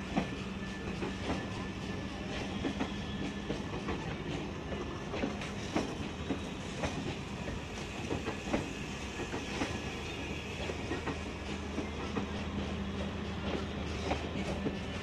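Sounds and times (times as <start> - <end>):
train rumble: 0.0 - 15.0
train wheels clickety-clack: 0.0 - 15.0.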